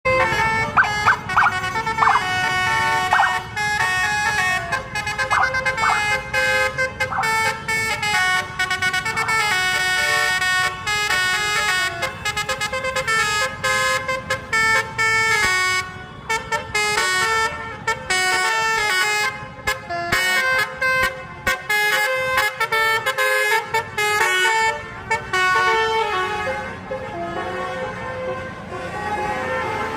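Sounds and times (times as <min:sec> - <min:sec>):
low rumble of engine and traffic: 0:00.0 - 0:29.9
musical bus horn melody: 0:00.0 - 0:29.9.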